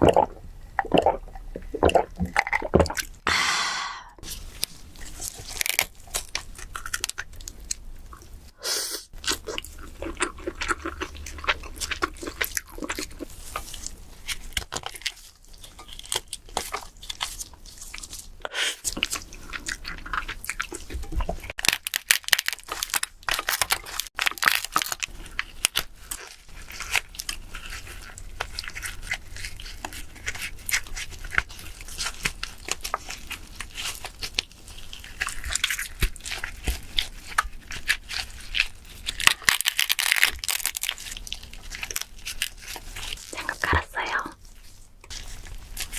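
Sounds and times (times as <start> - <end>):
crunching and chewing crab: 0.9 - 3.2, 4.2 - 8.5, 9.1 - 45.9.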